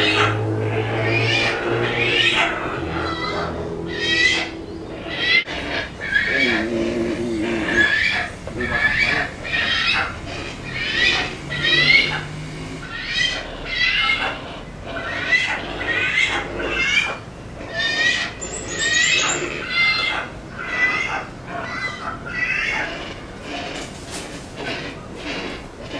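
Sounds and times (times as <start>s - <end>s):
young birds begging calls: 0.0s - 25.9s.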